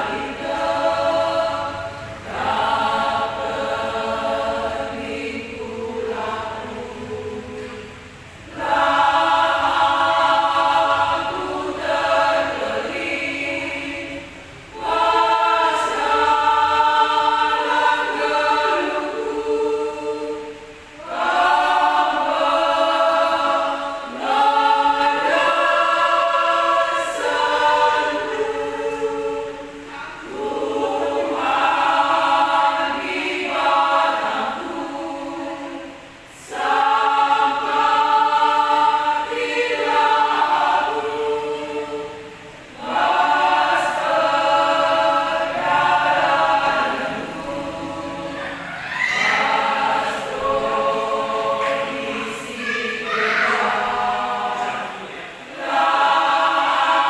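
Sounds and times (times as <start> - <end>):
women's choir singing a hymn: 0.0 - 57.0.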